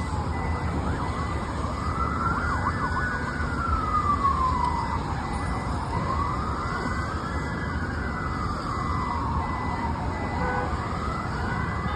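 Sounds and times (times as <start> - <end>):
siren wailing: 0.0 - 11.9
siren yelping: 0.0 - 11.9.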